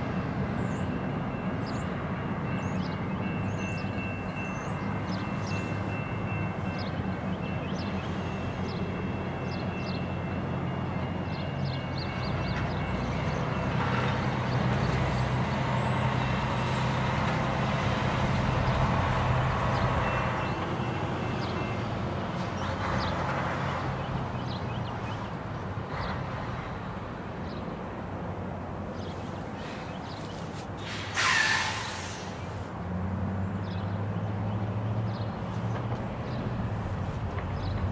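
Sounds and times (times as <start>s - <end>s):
locomotive engines droning: 0.0s - 37.9s.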